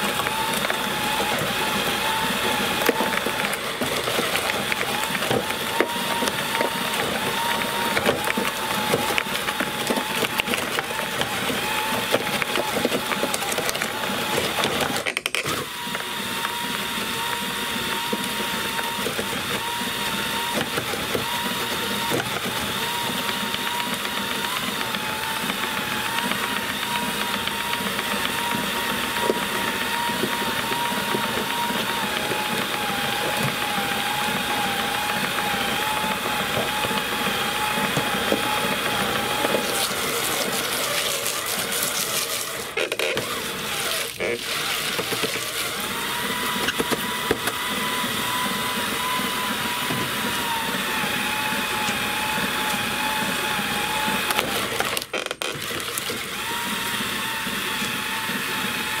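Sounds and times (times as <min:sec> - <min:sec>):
cutters crunching food scraps: 0:00.0 - 0:59.0
electric drill motor whining: 0:00.0 - 0:59.0.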